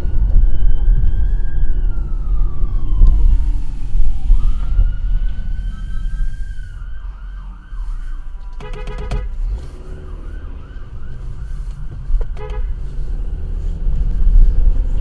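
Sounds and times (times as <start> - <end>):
police siren wailing: 0.0 - 14.1
road and engine rumble: 0.0 - 15.0.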